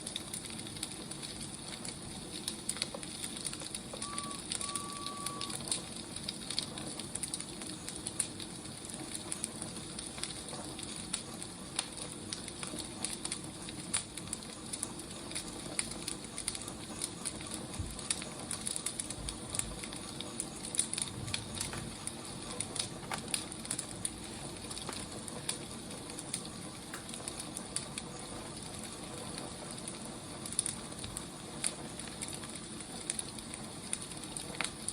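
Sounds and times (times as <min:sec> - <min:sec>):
sharp pops of fire: 0:00.0 - 0:34.9
wood fire crackling: 0:00.0 - 0:34.9.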